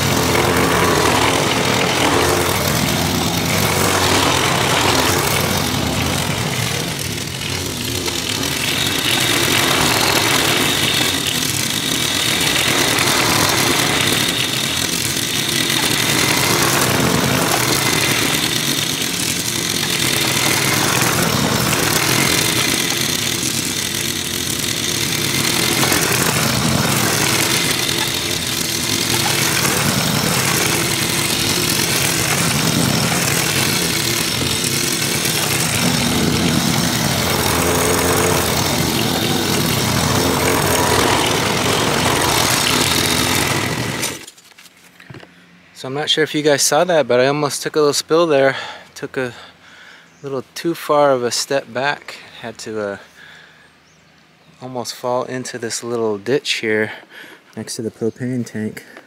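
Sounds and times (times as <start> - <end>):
lawn mower engine cutting grass: 0.0 - 57.0.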